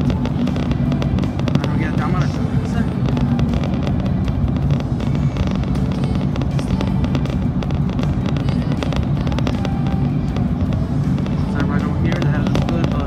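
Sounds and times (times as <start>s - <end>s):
car engine and tyres droning: 0.0s - 13.0s
music playing: 0.0s - 13.0s.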